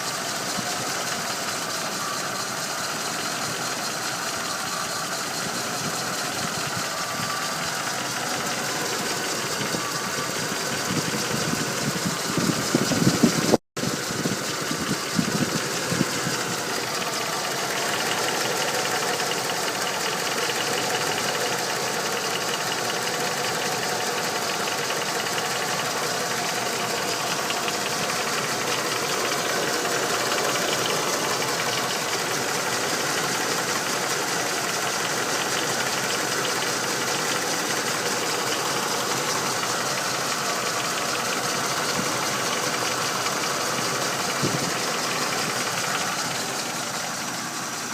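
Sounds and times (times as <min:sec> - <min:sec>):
car engine running: 0:00.0 - 0:47.9
engine ticking knock: 0:00.0 - 0:47.9.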